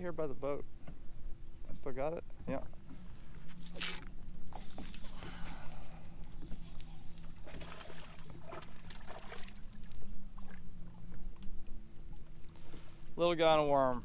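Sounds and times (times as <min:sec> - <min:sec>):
steady low hum: 0:00.0 - 0:14.0
water sloshing and splashing: 0:02.4 - 0:14.0.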